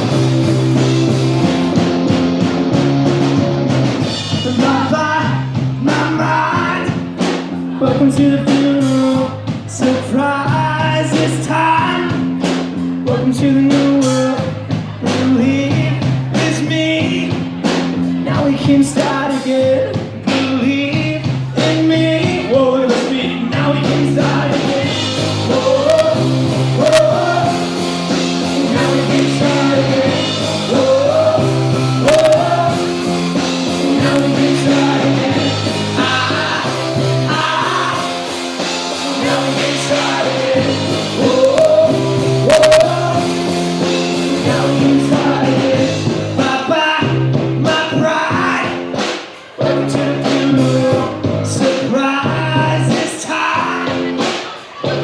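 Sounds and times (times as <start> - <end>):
bass line: 0.0 - 55.0
guitar: 0.0 - 55.0
person singing rock song: 0.0 - 55.0.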